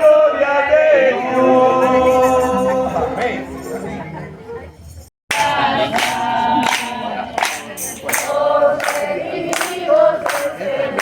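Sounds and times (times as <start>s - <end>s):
group singing worship song: 0.0s - 3.5s, 5.3s - 11.0s.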